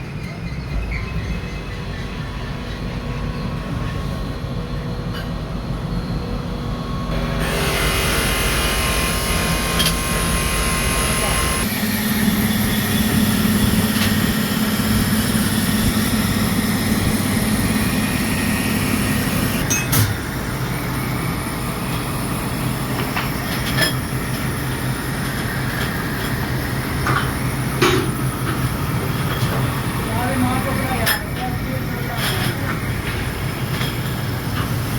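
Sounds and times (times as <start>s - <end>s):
workshop machinery humming: 0.0s - 34.9s.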